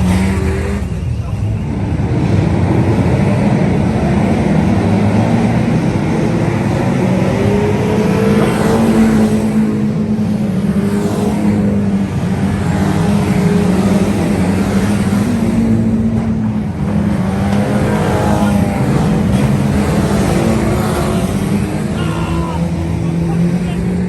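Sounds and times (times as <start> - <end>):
cars sweeping past: 0.0 - 24.0
racing car engines: 0.0 - 24.0.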